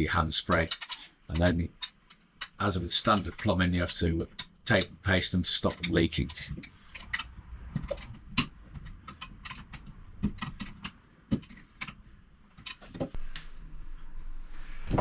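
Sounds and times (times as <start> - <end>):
metal fittings clicking and tapping: 0.4 - 13.2.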